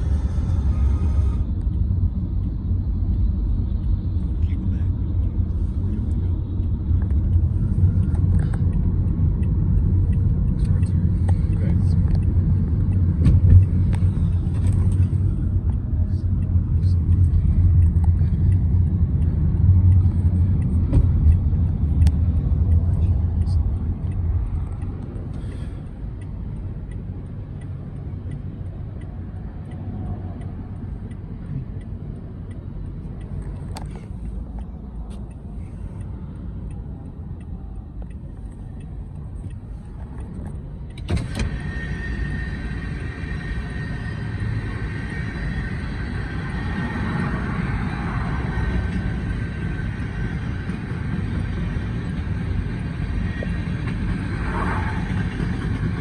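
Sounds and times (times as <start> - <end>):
heavy traffic rumble: 0.0 - 56.0.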